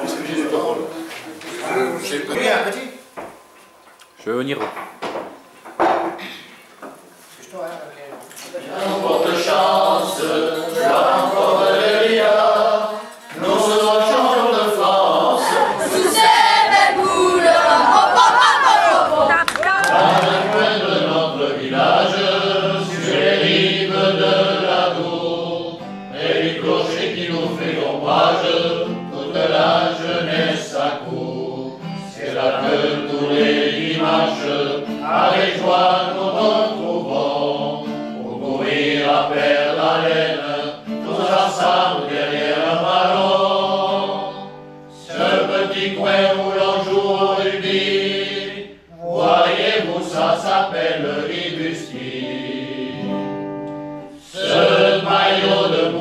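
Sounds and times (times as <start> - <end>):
men's choir singing: 0.0 - 3.6, 8.5 - 56.0
acoustic guitar: 8.3 - 56.0.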